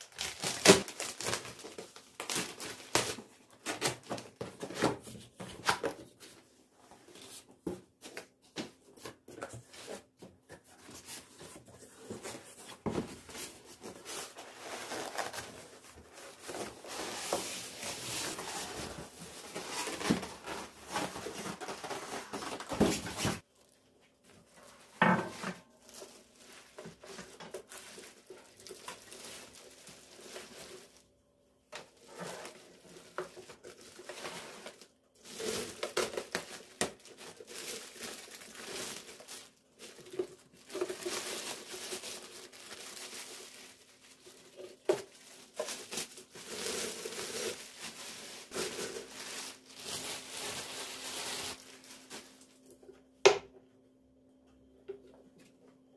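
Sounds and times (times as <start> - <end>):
crinkling and rustling: 0.0 - 53.1.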